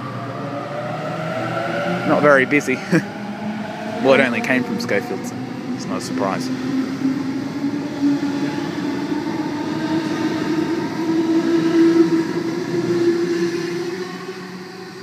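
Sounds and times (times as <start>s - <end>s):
electric train motor whine: 0.0s - 15.0s.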